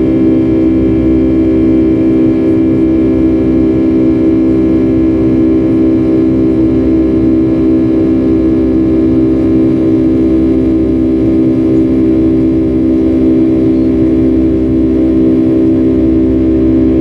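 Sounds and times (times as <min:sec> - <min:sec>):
jet engine cabin drone: 0:00.0 - 0:17.0.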